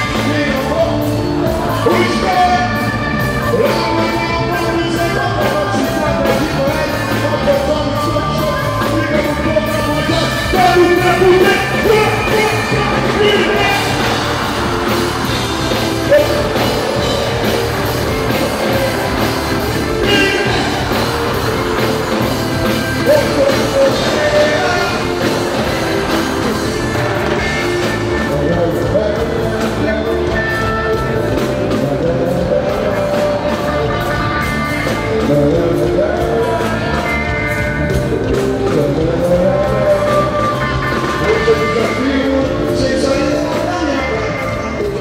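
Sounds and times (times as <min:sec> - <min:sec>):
live rock music with singer: 0:00.0 - 0:45.0.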